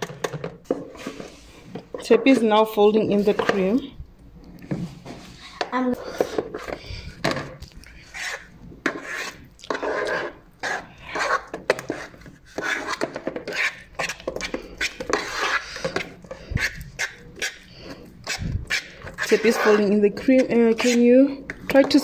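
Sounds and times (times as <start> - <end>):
spatula scraping a bowl: 0.0 - 3.9, 5.0 - 7.3, 7.9 - 22.0.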